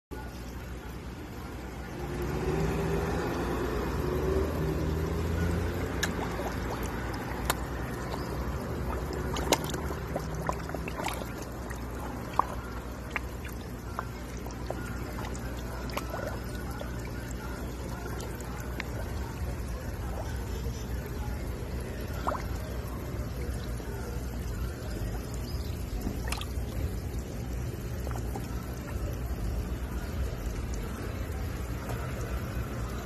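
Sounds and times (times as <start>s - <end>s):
water sloshing and trickling: 0.1s - 33.0s
fish splashing and gulping: 2.1s - 33.0s.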